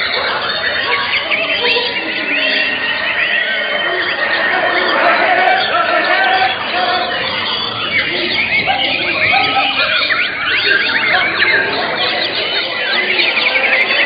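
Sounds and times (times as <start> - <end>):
birds singing whistled notes: 0.0 - 14.0
people's voices: 0.0 - 14.0.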